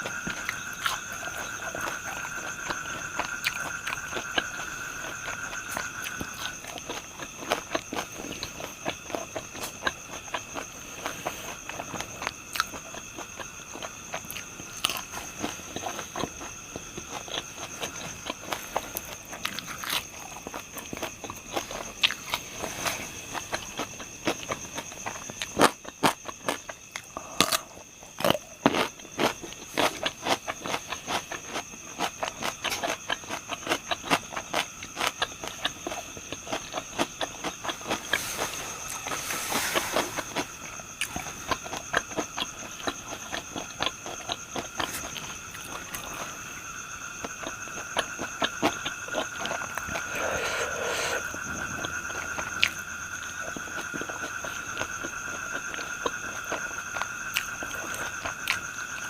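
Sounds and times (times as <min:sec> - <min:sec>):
crunchy chewing: 0:00.0 - 0:59.0
insects droning: 0:00.0 - 0:59.0.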